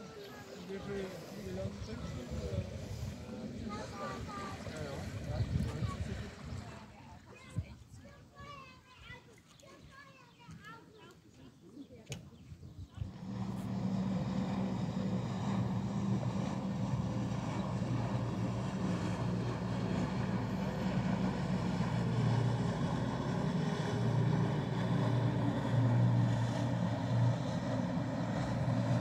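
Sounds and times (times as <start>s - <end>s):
motorboat engine droning: 0.0s - 7.7s, 12.0s - 29.0s.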